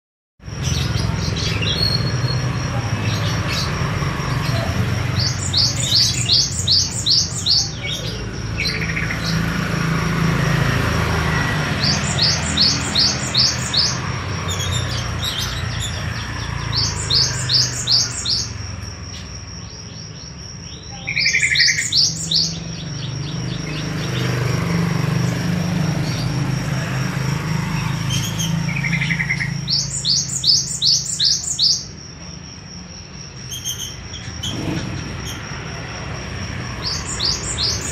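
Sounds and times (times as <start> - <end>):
bird singing rapid high chirps: 0.4 - 35.6, 36.6 - 37.9.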